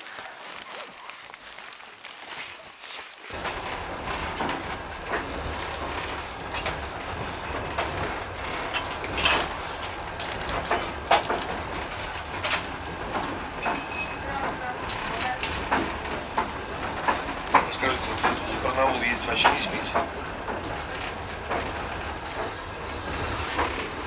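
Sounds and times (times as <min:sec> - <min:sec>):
wheels clacking: 0:00.0 - 0:24.0
train carriage rumble: 0:00.1 - 0:24.0.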